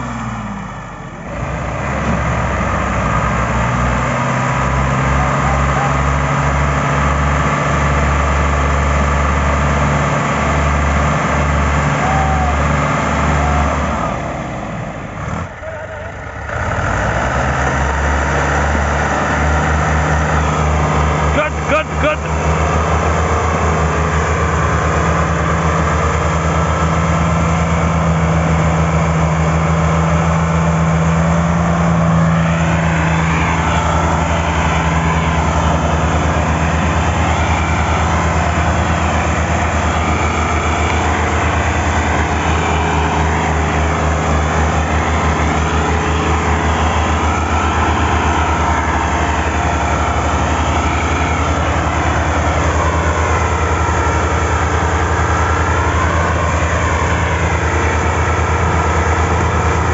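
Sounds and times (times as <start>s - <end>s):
tractor diesel engines under load: 0.0s - 59.9s.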